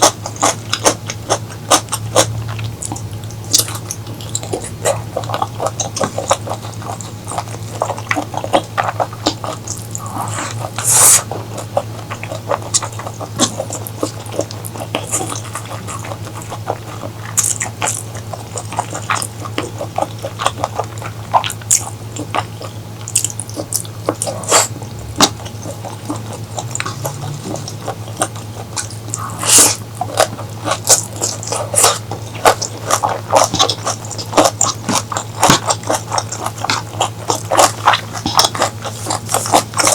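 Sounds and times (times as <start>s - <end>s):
steady low hum: 0.0s - 39.9s
wet chewing and mouth smacks: 0.0s - 39.9s.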